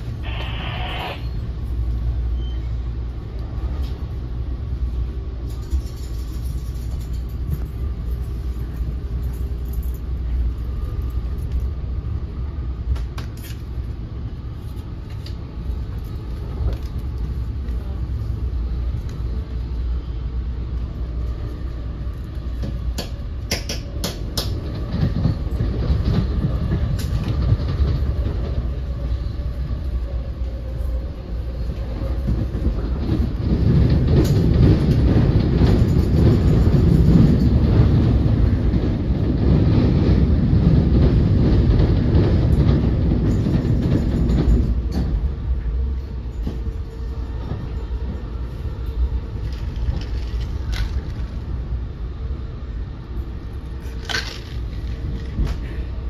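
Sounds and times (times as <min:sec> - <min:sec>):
low rumble of wheels on rail: 0:00.0 - 0:56.0.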